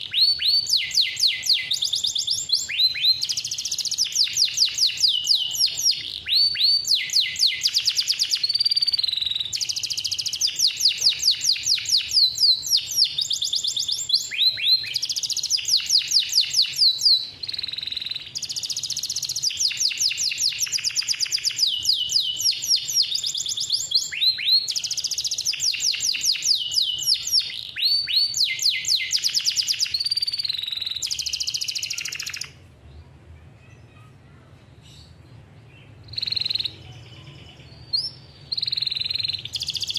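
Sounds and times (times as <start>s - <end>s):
canary singing trills: 0.0s - 32.6s, 34.8s - 39.9s.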